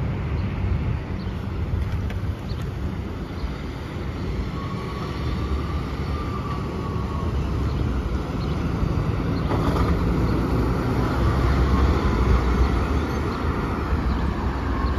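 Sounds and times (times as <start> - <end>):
bus rumbling past: 0.0 - 14.9
road traffic: 0.0 - 14.9.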